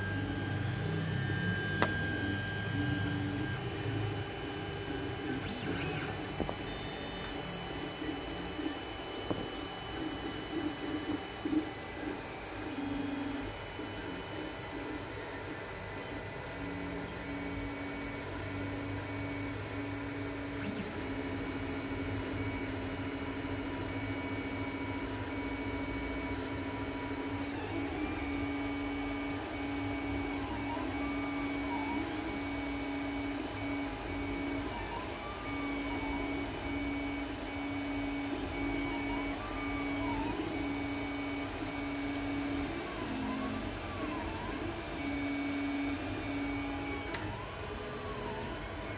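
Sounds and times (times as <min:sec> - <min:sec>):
print head whines rising and falling: 0:00.0 - 0:48.9
printer motor whine: 0:00.0 - 0:48.9.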